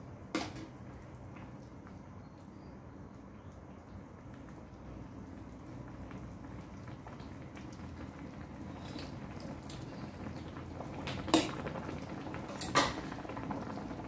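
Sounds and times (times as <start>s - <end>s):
soup bubbling: 0.7s - 14.0s.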